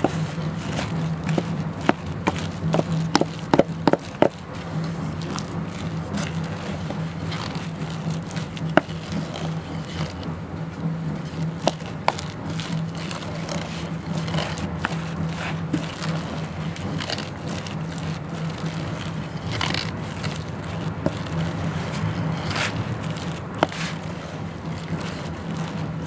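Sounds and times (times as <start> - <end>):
low hum: 0.0 - 26.0
spatula squishing and scraping: 0.0 - 26.0.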